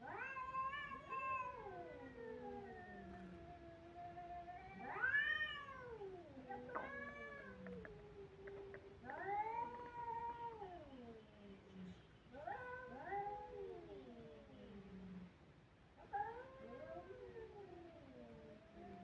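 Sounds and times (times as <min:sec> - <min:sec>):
cats yowling: 0:00.0 - 0:11.2, 0:12.4 - 0:14.4, 0:16.0 - 0:19.0.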